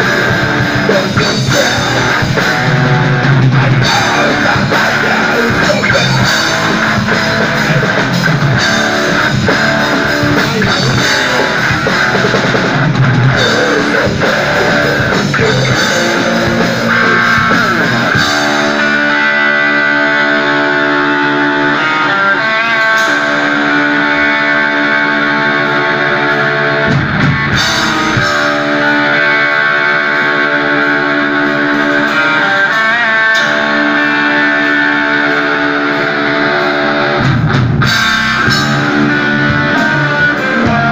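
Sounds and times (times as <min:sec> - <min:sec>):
electric guitars ringing sustained notes: 0:00.0 - 0:40.9
heavy rock band playing: 0:00.0 - 0:40.9.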